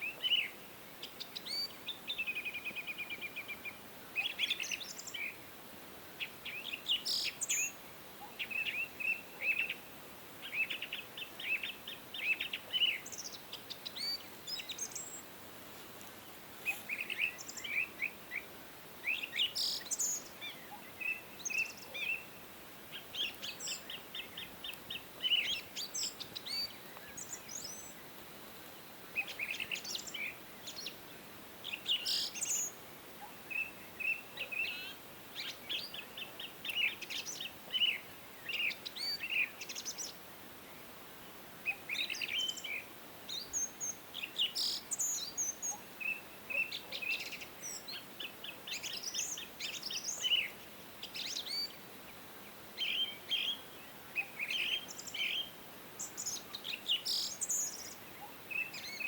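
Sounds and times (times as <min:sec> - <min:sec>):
faint steady hiss: 0:00.0 - 0:59.0
songbirds chirping and trilling: 0:00.0 - 0:59.0.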